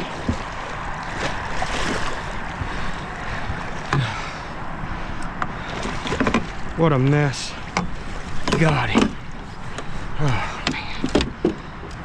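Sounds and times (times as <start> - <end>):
water washing around boat: 0.0 - 12.0.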